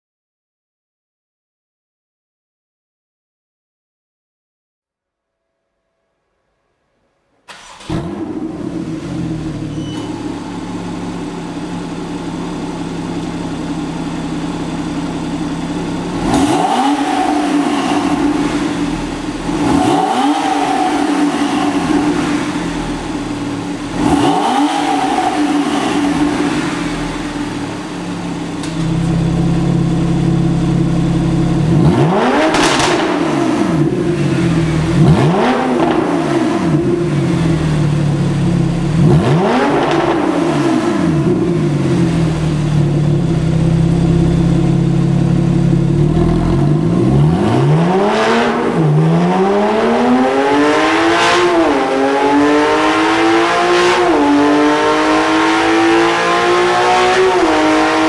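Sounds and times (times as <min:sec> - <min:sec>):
car engine idling and revving: 0:07.5 - 0:58.0.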